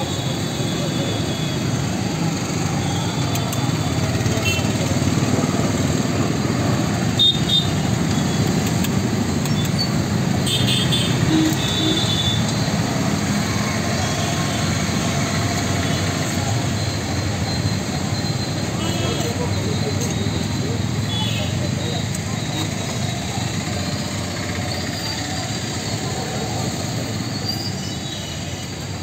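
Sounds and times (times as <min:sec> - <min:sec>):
motorcycles passing: 0:00.0 - 0:27.4.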